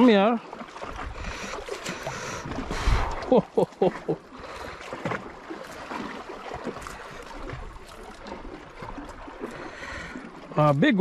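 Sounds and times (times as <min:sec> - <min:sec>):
sea water sloshing against rocks: 0:00.0 - 0:11.0.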